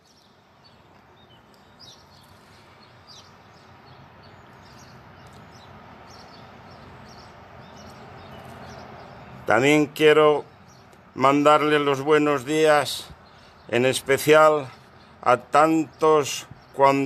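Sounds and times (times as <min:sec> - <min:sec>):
faint outdoor hiss: 0:00.0 - 0:17.0
small birds chirping: 0:00.0 - 0:17.0.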